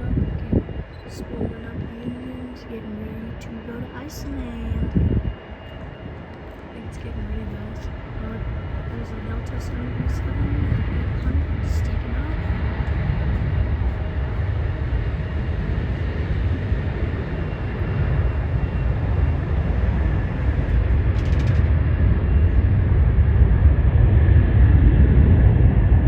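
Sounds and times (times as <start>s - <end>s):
faint steady whine: 0.0s - 23.8s
jet engine rumble: 0.0s - 26.0s.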